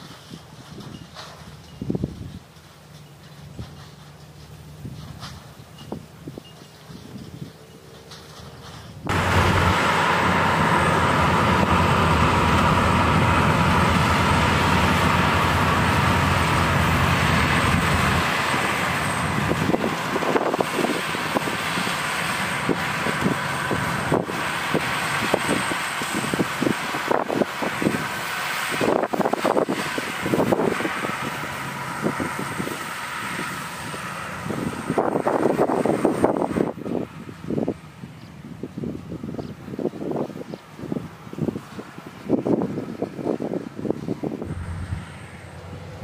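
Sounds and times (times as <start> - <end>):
combine harvester running: 0.0 - 46.0.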